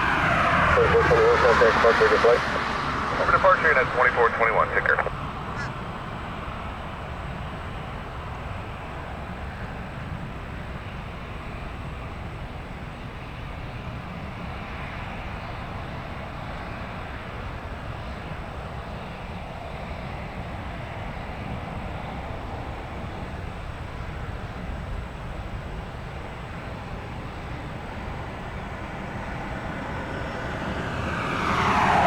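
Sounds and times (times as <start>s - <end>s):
distant jet engines roaring: 0.0s - 32.0s.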